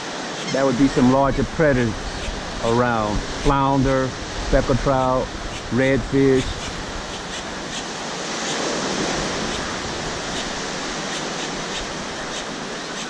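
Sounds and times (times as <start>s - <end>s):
surf washing over shallow water: 0.0s - 13.0s.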